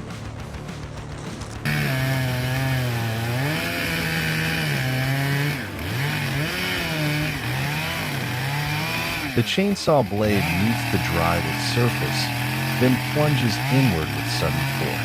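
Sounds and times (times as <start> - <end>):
chainsaw cutting through wood: 0.9 - 15.0.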